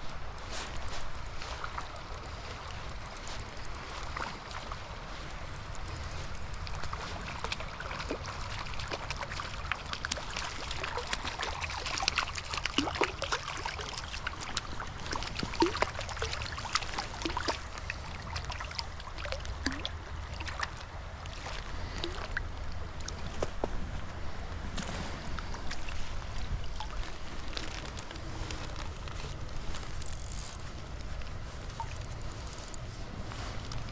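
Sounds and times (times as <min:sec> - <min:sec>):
creek water over rocks: 0:00.0 - 0:33.9.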